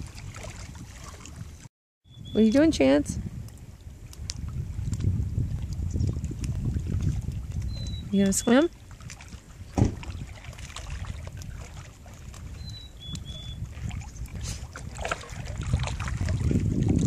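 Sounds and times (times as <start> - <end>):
lake water splashing: 0.0 - 1.7, 2.3 - 17.0
wind buffeting microphone: 0.0 - 17.0.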